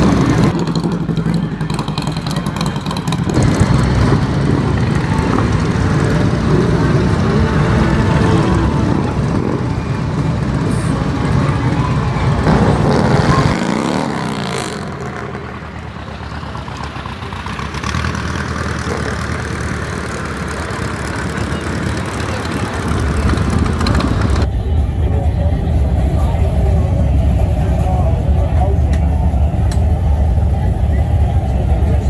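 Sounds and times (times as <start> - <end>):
motorcycle passing by: 0.0 - 28.8
motorcycle engines running: 0.0 - 32.0.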